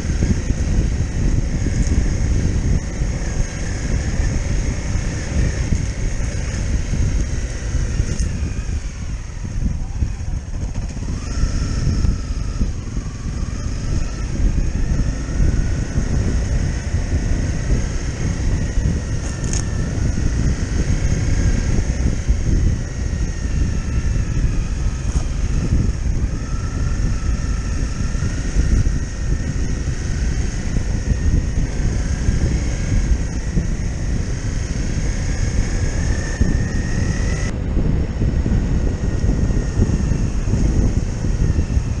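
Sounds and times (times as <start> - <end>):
motorcycle engine revving: 0.0 - 42.0
wind buffeting microphone: 0.0 - 42.0.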